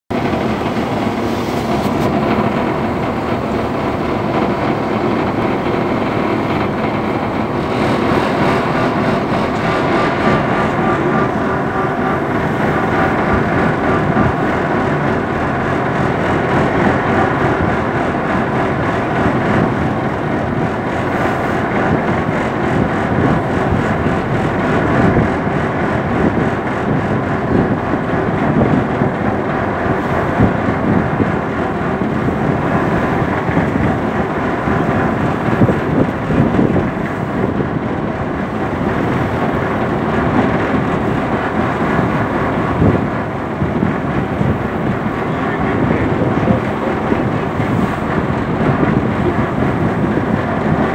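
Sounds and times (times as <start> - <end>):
boat engine running: 0.1 - 50.9
wind on microphone: 0.1 - 50.9.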